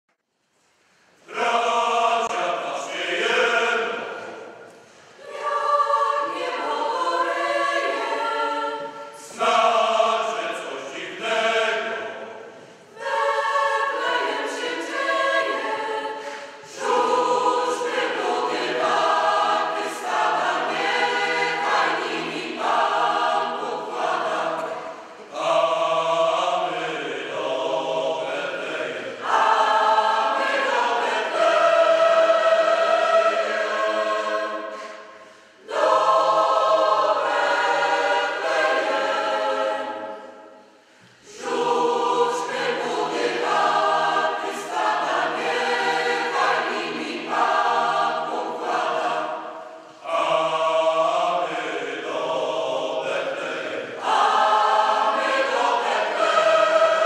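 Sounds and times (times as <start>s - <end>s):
mixed choir singing: 1.2s - 57.0s.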